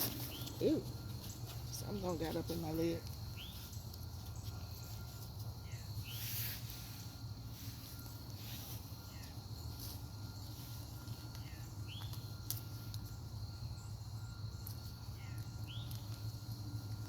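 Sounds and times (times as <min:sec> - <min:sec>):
bird chirping: 0:00.0 - 0:16.4
high insect drone: 0:00.0 - 0:17.0.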